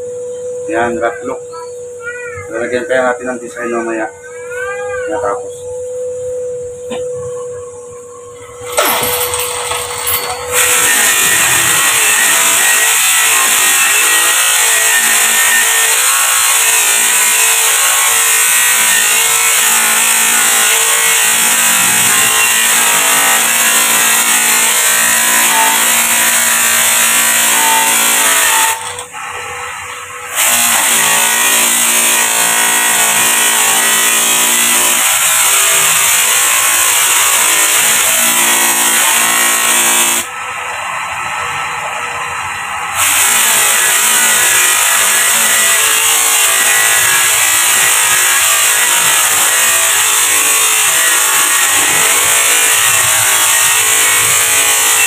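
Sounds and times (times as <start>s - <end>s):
metal grinding on bench grinder: 8.3s - 40.3s, 41.3s - 55.0s.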